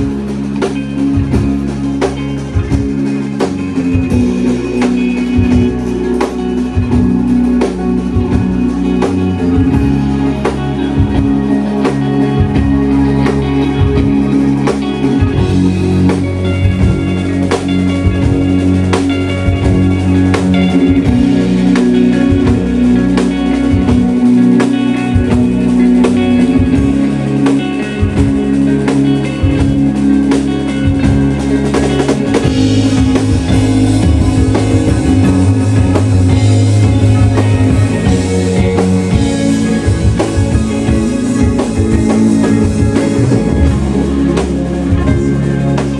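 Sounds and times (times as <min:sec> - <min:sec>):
bass: 0:00.0 - 0:45.9
distorted guitars: 0:00.0 - 0:45.9
drum kit beat: 0:00.0 - 0:45.9.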